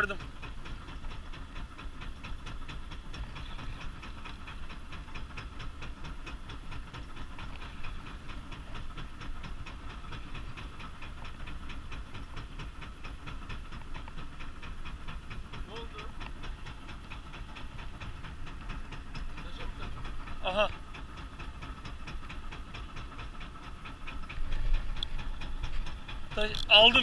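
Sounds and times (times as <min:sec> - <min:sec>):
boat motor running: 0:00.0 - 0:27.0
water noise: 0:00.0 - 0:27.0.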